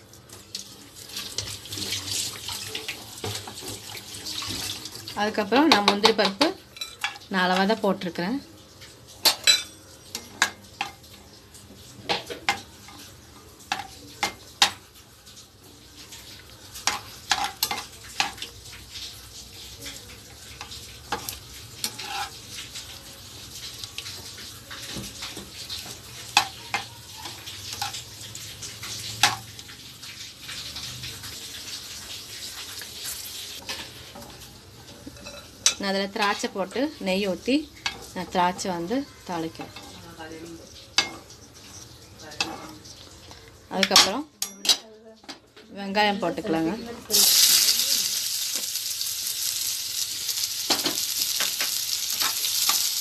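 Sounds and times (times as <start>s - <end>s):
nuts frying and sizzling: 0.0s - 53.0s.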